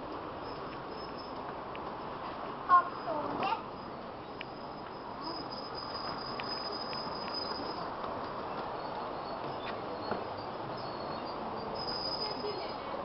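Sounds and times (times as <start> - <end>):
small wheels rumbling on track: 0.0 - 13.0.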